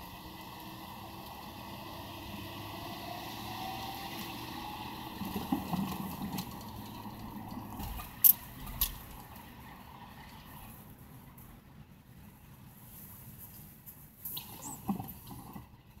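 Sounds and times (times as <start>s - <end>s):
tyre and road noise on slush: 0.0s - 16.0s.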